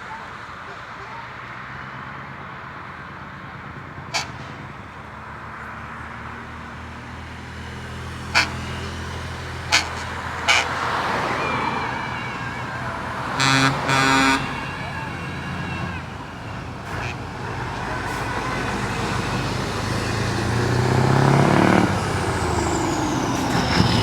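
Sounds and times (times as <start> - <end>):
heavy truck engines running: 0.0 - 24.0.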